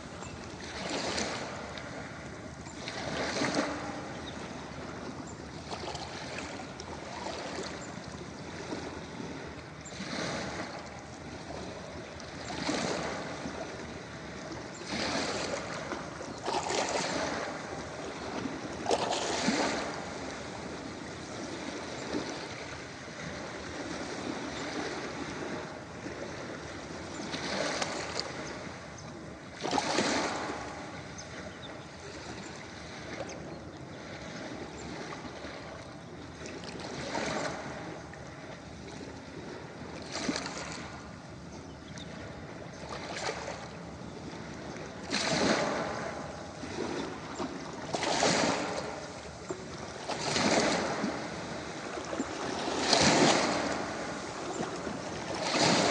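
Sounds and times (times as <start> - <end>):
ocean waves breaking on beach: 0.0 - 55.9.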